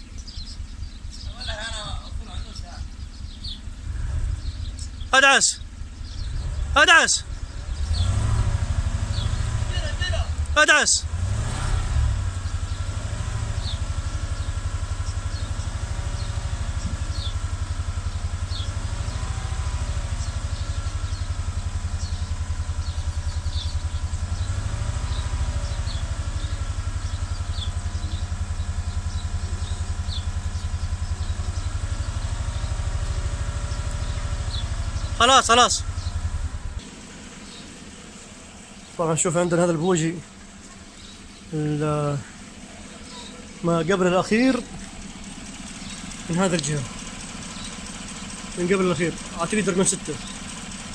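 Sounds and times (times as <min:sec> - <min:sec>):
misfiring engine running: 0:00.0 - 0:50.9.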